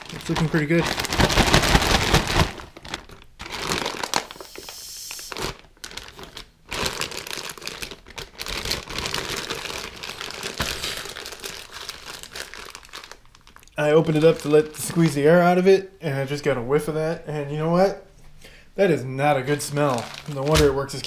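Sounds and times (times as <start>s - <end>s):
plastic bag crinkling: 0.0s - 15.5s, 19.4s - 21.0s.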